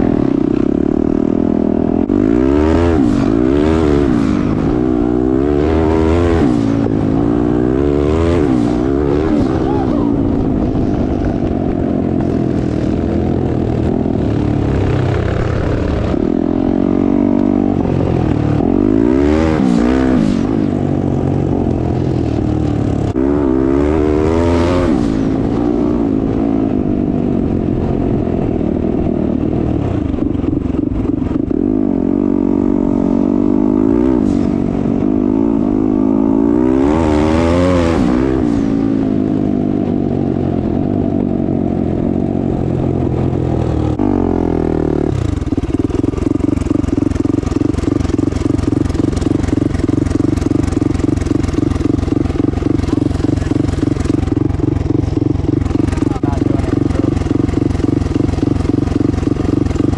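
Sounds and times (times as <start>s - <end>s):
dirt bike engine revving: 0.0s - 30.3s, 30.9s - 39.7s, 41.9s - 59.9s.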